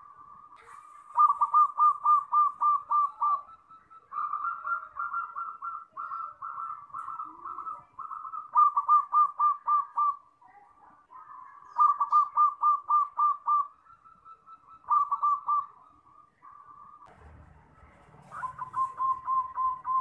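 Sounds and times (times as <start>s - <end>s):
dove cooing: 0.0s - 10.3s, 11.1s - 17.1s, 17.8s - 20.0s.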